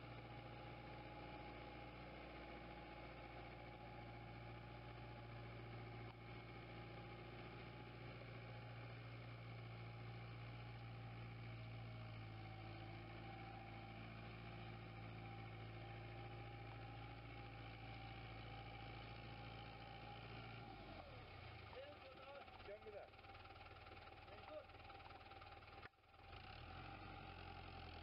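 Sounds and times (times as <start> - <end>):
tractor diesel engine drone: 0.0 - 28.0.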